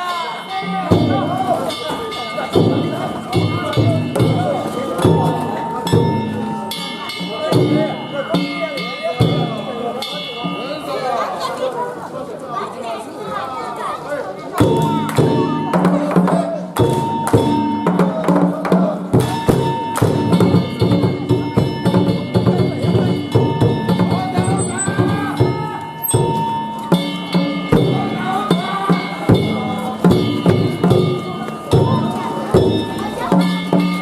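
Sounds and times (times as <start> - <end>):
drum beating: 0.0 - 10.9, 14.6 - 34.0
hand gongs ringing: 0.0 - 11.4, 14.6 - 34.0.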